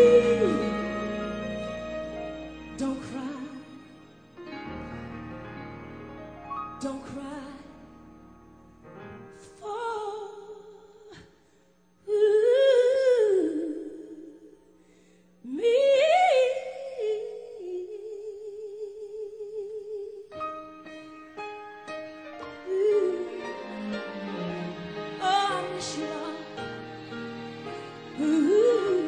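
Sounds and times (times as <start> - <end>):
slow song with wordless vocals: 0.0 - 29.0.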